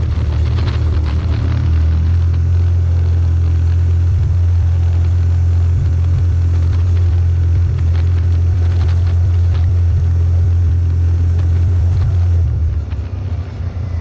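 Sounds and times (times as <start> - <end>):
vehicle engine rumbling under load: 0.0 - 14.0.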